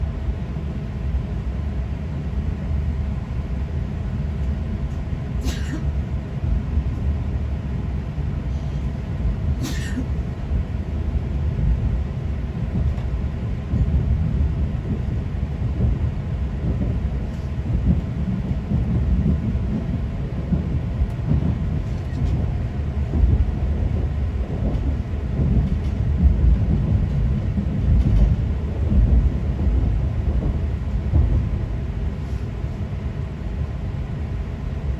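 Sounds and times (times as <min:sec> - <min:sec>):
train running rumble: 0:00.0 - 0:34.9.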